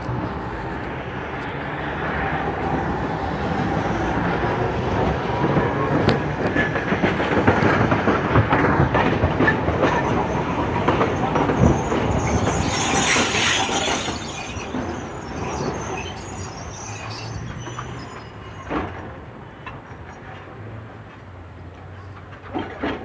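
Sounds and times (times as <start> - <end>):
tram running on rails: 0.0 - 23.0
wheels clacking over track: 0.0 - 23.0.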